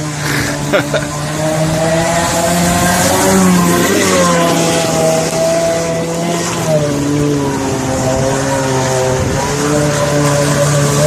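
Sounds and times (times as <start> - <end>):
jet ski engine running hard: 0.0 - 11.0.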